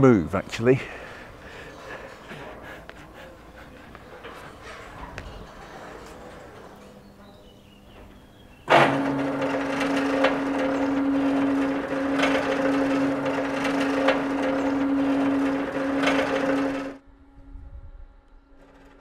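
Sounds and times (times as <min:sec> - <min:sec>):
crane hoist humming and rattling: 0:00.6 - 0:19.0
hoist clicking: 0:01.8 - 0:17.0.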